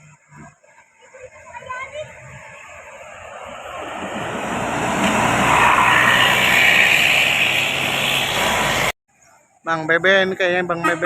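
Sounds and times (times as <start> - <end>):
bus passing at speed: 0.0 - 9.0.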